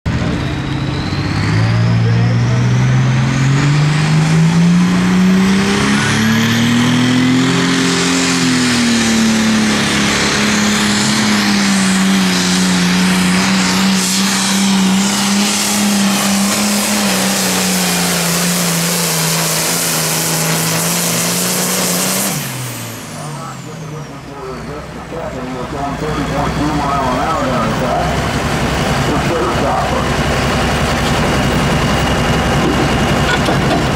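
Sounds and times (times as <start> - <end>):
tractor diesel engine at full throttle: 0.0 - 33.9.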